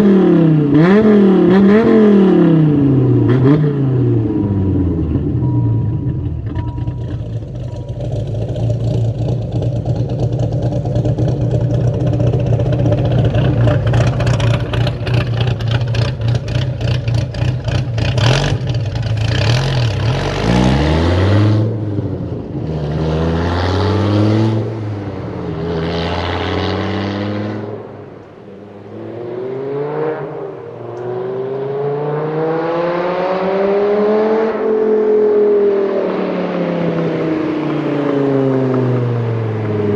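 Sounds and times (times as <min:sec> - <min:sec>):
loud car engine revving: 0:00.0 - 0:39.9.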